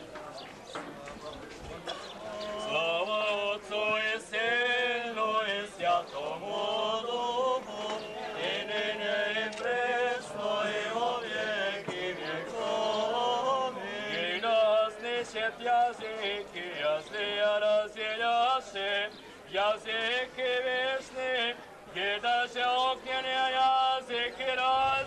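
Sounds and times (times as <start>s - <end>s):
men chanting: 2.2s - 25.0s.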